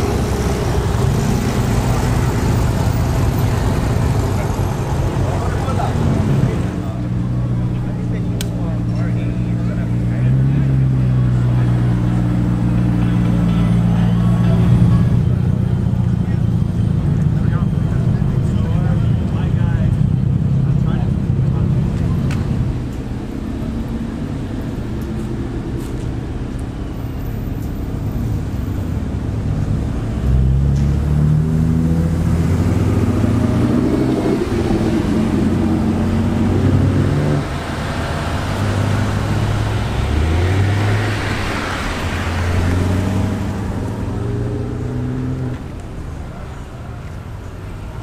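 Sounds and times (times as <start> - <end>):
car engine accelerating hard: 0.0 - 48.0.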